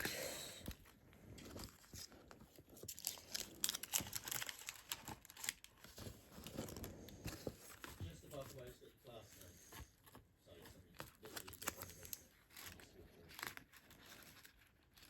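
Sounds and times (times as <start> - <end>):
packaging rustling and crinkling: 0.6 - 9.2, 10.0 - 15.0.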